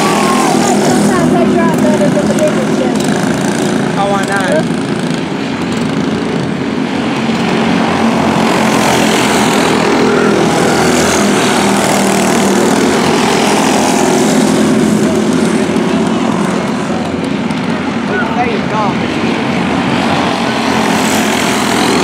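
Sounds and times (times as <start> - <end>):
go-kart engines buzzing: 0.0 - 22.0.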